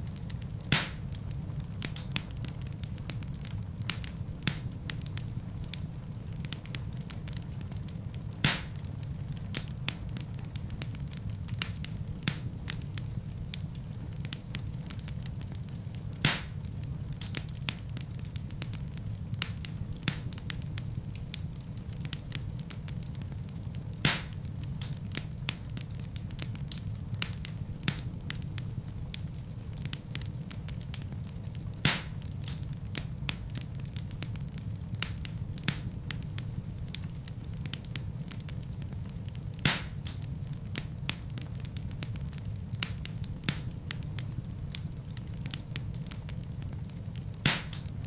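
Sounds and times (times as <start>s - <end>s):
loud fire pops: 0.0s - 48.0s
wood fire crackling: 0.0s - 48.0s.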